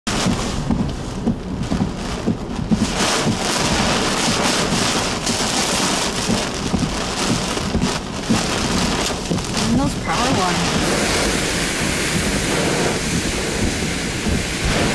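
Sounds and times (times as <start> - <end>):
heavy rain pouring: 0.1 - 14.9.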